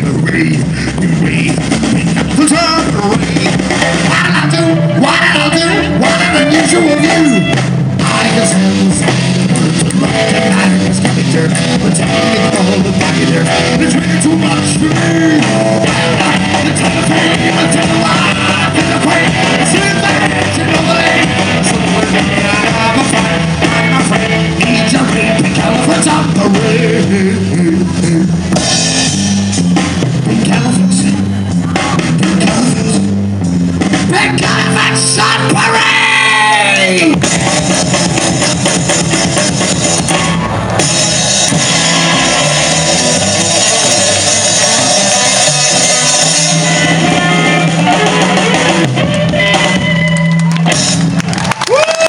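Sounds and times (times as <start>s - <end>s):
bass guitar: 0.0s - 52.0s
drums: 0.0s - 52.0s
electric guitar: 0.0s - 52.0s
rock band playing: 0.0s - 52.0s.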